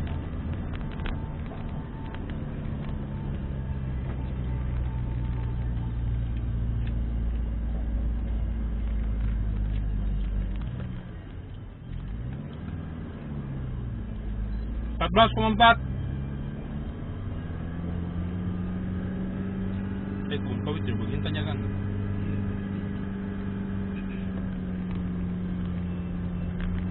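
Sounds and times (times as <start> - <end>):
car engine running: 0.0 - 26.9
tyre and road noise: 0.0 - 26.9.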